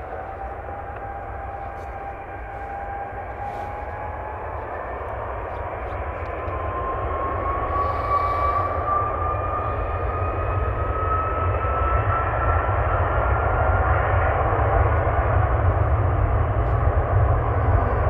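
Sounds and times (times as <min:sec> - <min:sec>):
jet engines roaring with whine: 0:00.0 - 0:18.0.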